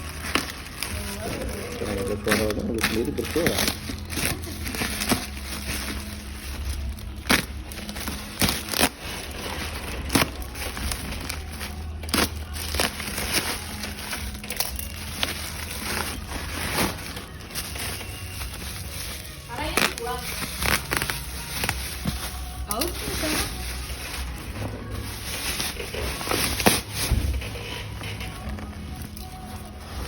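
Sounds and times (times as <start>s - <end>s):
packaging crinkling: 0.0s - 30.0s.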